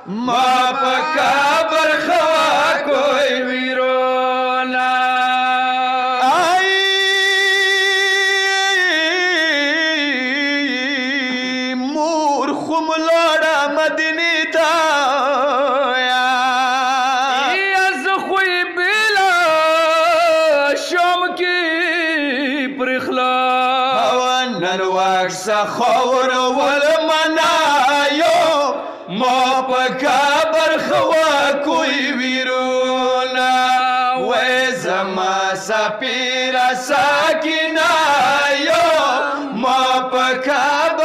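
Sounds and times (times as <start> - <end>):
man singing unaccompanied lament: 0.0 - 41.0.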